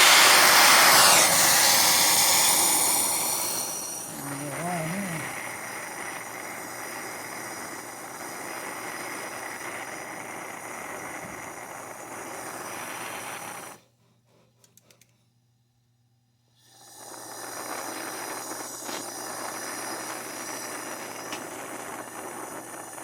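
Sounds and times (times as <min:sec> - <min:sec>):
torch flame hissing: 0:00.0 - 0:13.8, 0:16.7 - 0:23.0.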